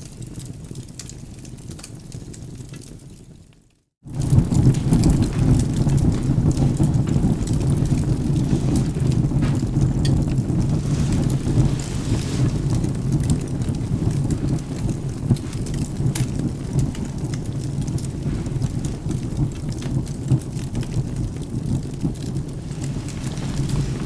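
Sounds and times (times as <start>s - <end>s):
steady rain: 0.0s - 24.0s
wood fire crackling and popping: 0.0s - 24.0s
low thunder rumble: 4.1s - 24.0s.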